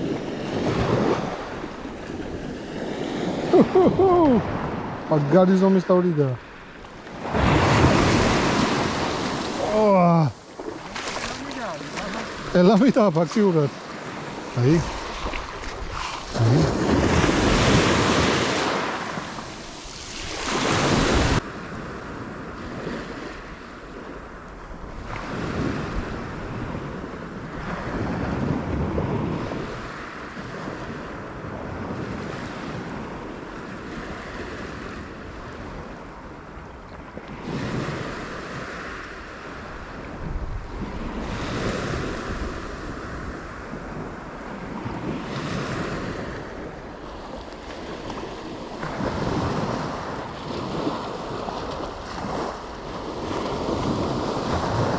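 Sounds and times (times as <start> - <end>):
sea waves washing: 0.0 - 54.9
wind on microphone: 0.0 - 54.9.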